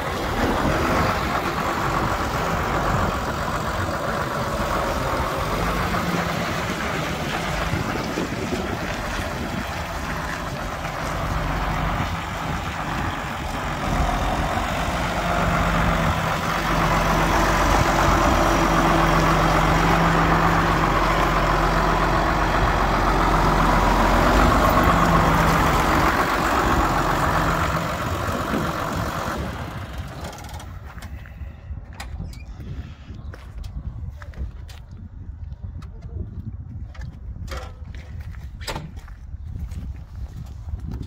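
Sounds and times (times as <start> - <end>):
tractor diesel engine running: 0.0 - 35.8.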